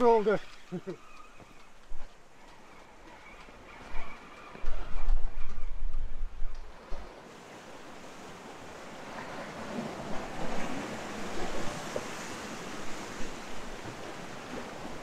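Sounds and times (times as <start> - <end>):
sea surf against rocks: 0.0 - 1.7, 2.9 - 15.0.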